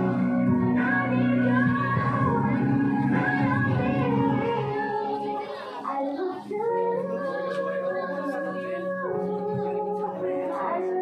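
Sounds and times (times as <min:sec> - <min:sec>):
dance song with sung vocals: 0:00.0 - 0:11.0.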